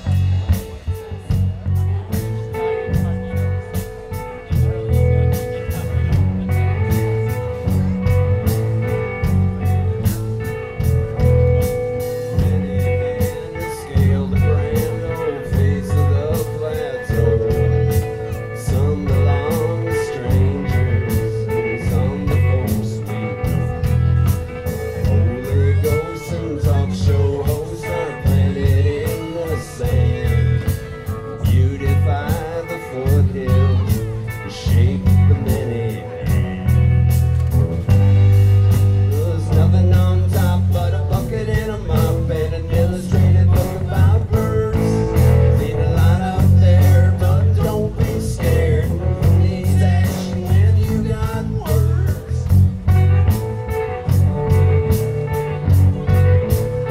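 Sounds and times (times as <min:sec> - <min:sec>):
bending guitar lines: 0:00.0 - 0:56.9
drum kit steady beat: 0:00.0 - 0:56.9
electric bass: 0:00.0 - 0:56.9
electric guitars: 0:00.0 - 0:56.9
live rock band playing: 0:00.0 - 0:56.9.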